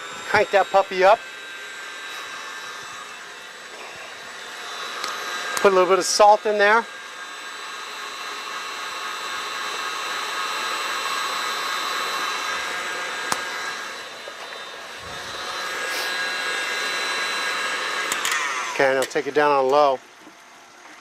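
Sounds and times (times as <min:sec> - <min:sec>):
electric mixer whirring: 0:00.0 - 0:21.0.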